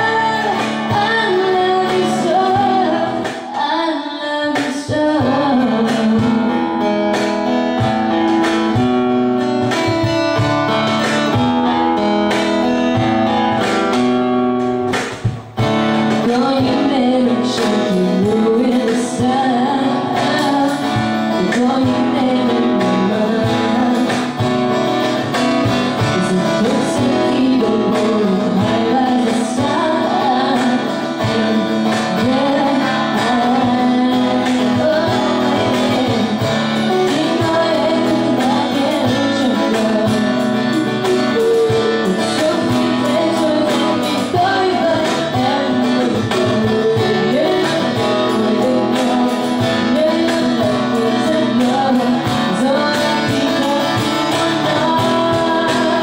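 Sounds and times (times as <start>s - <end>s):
acoustic guitar: 0.0s - 56.0s
woman singing into microphone: 0.0s - 56.0s.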